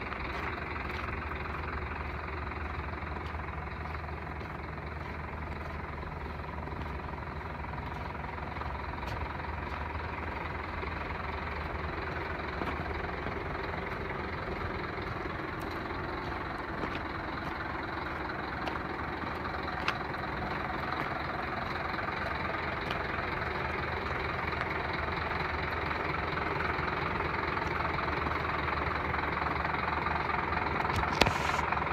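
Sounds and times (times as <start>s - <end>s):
truck diesel engine running: 0.0s - 31.9s.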